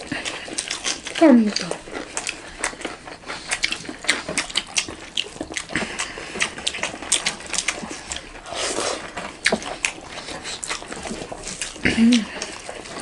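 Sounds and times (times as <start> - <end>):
chewing and lip smacking: 0.0 - 13.0
hands mixing rice squishing: 0.0 - 13.0.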